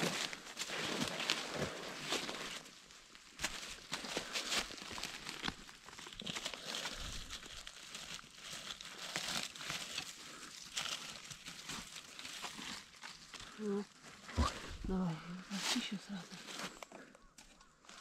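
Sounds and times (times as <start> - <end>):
twigs cracking: 0.0 - 14.9
footsteps through leaf litter: 0.0 - 16.8.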